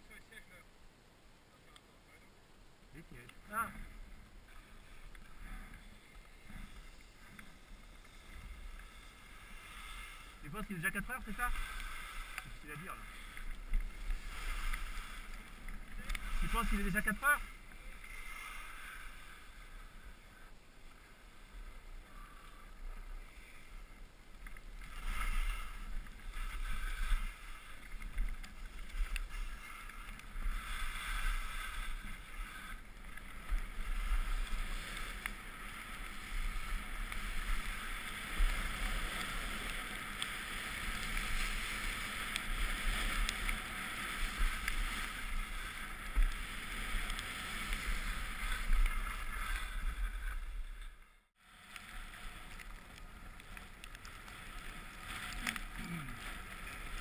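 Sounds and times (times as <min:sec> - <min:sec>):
skis scraping on snow: 0:03.0 - 0:57.0.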